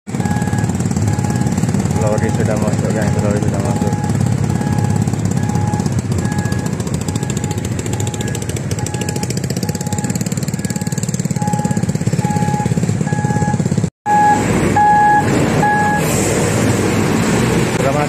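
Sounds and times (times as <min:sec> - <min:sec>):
reversing alarm beeping: 0:00.1 - 0:16.1
diesel lorry engine rumbling: 0:00.1 - 0:18.0.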